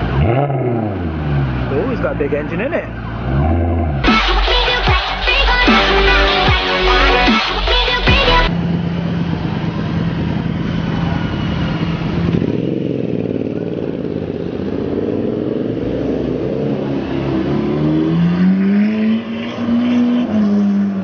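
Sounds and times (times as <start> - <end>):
car engine idling and accelerating: 0.0 - 21.0.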